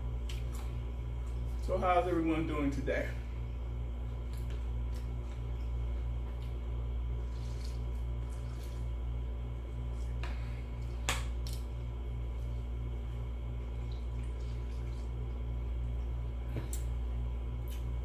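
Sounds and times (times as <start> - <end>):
low hum with faint pulse: 0.0 - 18.0.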